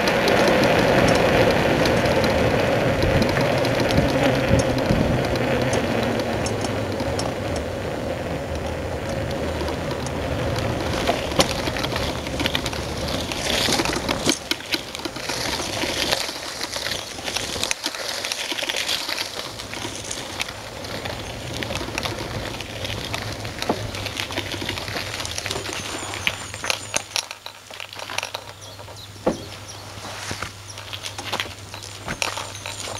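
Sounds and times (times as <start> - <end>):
trailer road and wind rumble: 0.0 - 32.9
wheels crunching on gravel: 0.0 - 32.9.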